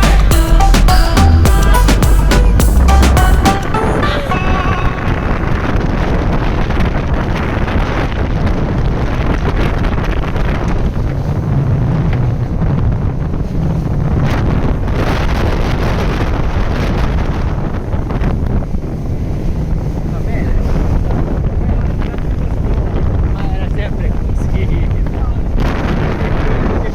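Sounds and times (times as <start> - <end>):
wind buffeting microphone: 4.9 - 26.9.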